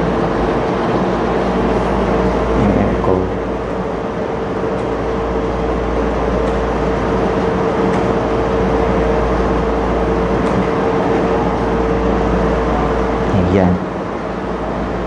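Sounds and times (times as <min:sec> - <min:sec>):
mid-pitched hum: 0:00.0 - 0:15.0.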